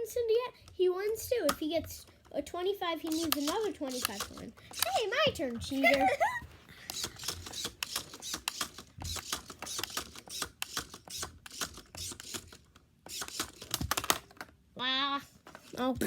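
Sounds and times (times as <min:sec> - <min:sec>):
plastic toy clicking and clattering: 0:01.0 - 0:06.2, 0:06.8 - 0:14.6.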